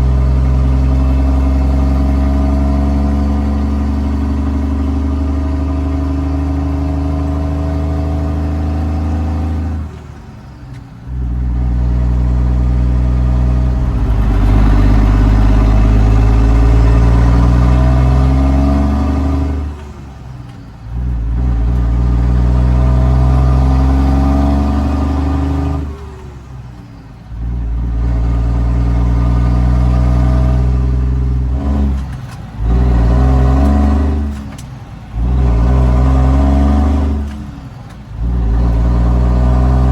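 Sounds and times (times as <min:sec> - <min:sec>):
diesel truck engine accelerating: 0:00.0 - 0:39.9.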